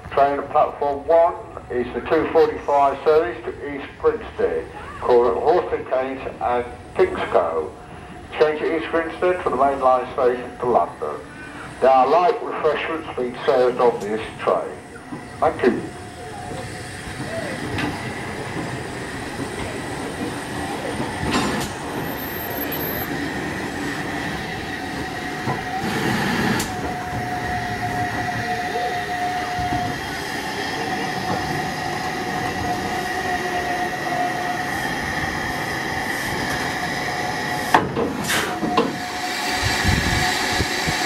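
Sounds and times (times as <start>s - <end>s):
wheels squealing on rails: 4.0s - 41.0s.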